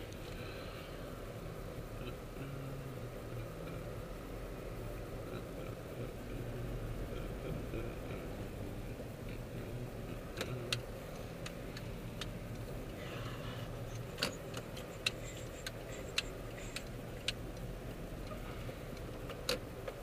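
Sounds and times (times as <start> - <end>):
car cabin hum: 0.0 - 20.0
turn signal ticking: 0.0 - 20.0.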